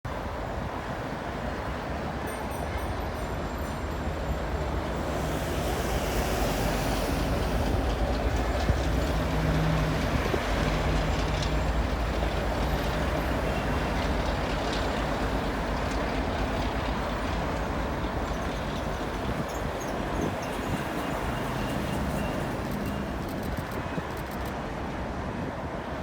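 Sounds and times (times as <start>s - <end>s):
passenger train rumbling: 0.1s - 26.0s.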